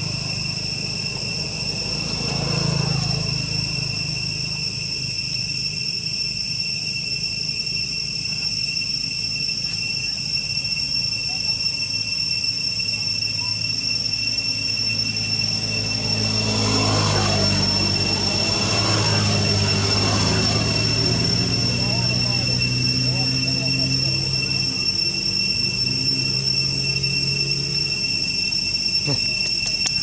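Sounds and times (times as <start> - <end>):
high-pitched insect drone: 0.0 - 30.0
low hum: 0.0 - 30.0.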